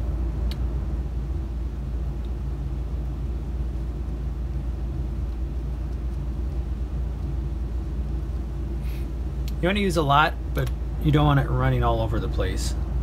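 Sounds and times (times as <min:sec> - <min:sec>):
faint hum: 0:00.0 - 0:13.0
low background rumble: 0:00.0 - 0:13.0.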